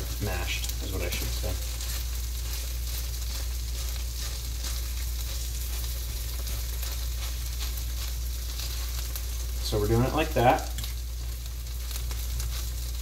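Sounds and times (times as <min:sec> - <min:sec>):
potatoes sizzling in a frying pan: 0:00.0 - 0:13.0.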